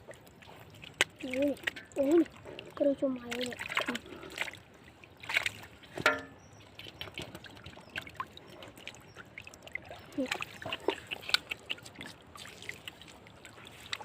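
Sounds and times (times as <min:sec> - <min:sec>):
floodwater splashing and trickling: 0:00.0 - 0:14.0.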